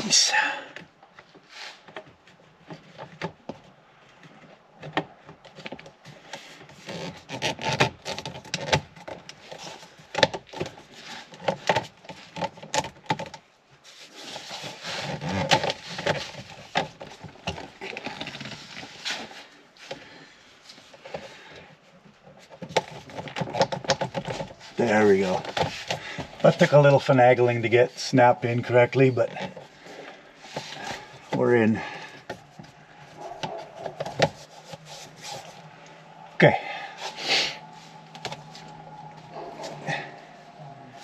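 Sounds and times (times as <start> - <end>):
rubbing and scraping: 1.3 - 41.0.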